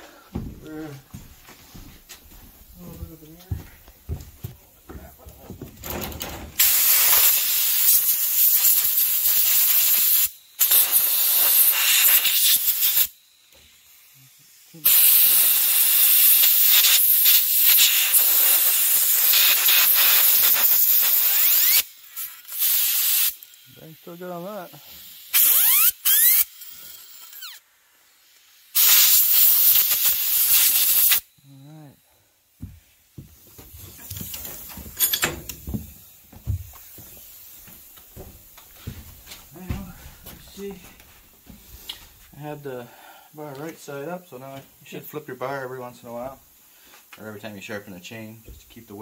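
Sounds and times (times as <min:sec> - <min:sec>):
compressed air blow gun hissing: 0:04.4 - 0:31.3, 0:32.4 - 0:49.0.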